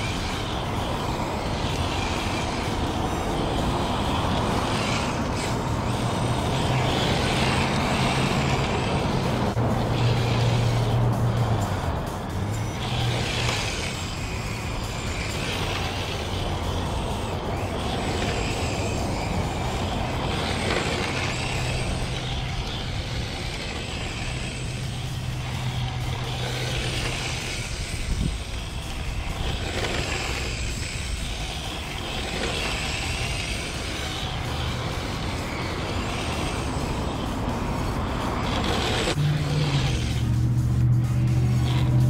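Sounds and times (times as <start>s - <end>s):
electric motor whining: 0.0s - 42.0s
tyres hissing on asphalt: 0.0s - 42.0s.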